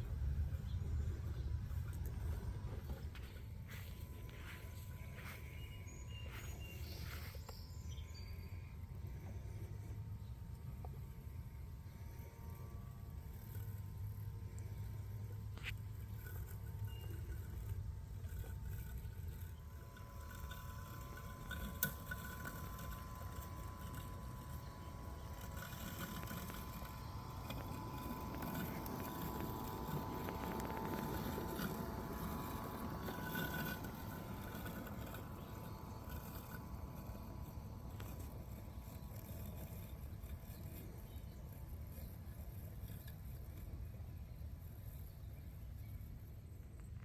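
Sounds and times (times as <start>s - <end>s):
robotic lawnmower motor whine: 0.0s - 47.0s.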